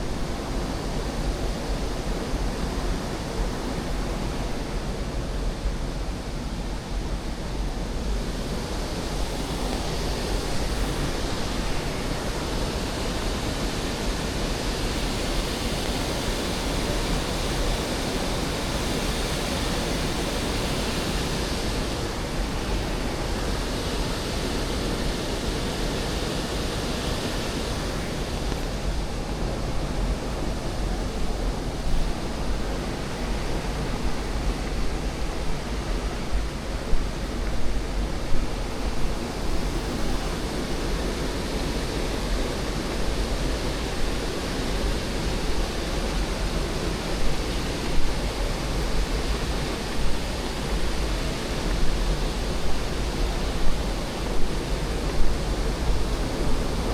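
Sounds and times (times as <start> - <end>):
waterfall rushing: 8.6 - 56.9.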